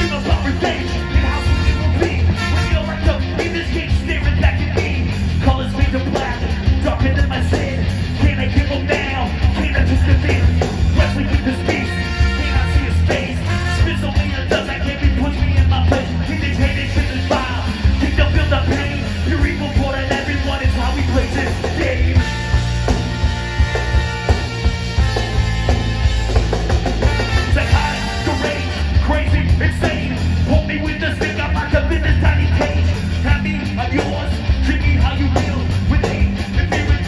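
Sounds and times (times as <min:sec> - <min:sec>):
person singing into a microphone: 0:00.0 - 0:22.3, 0:27.5 - 0:37.0
ska band playing: 0:00.0 - 0:37.0
trombone and trumpet: 0:00.0 - 0:37.0.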